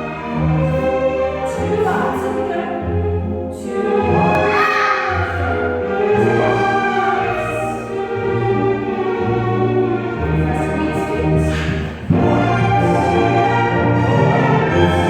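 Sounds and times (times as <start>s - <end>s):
choir singing held chords: 0.0s - 15.0s
orchestral music: 0.0s - 15.0s.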